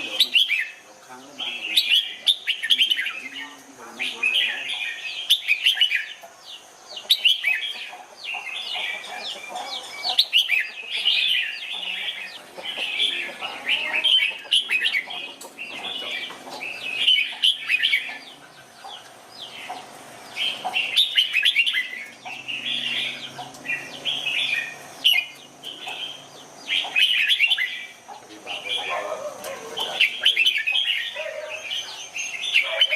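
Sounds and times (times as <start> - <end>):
bird chirping song: 0.0 - 32.9.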